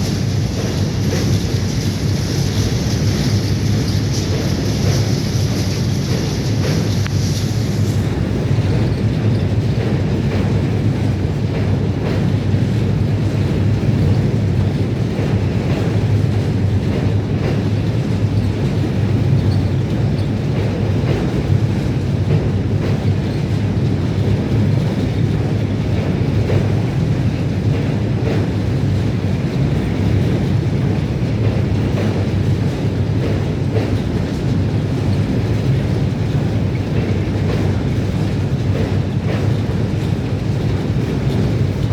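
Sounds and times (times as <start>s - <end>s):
train rumbling: 0.0s - 41.9s.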